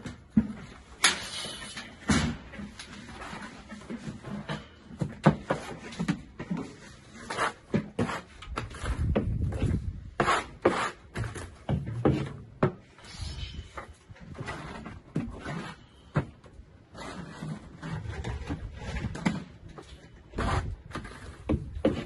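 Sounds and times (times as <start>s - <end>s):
trowel scraping mortar: 2.9s - 12.3s, 13.0s - 22.0s.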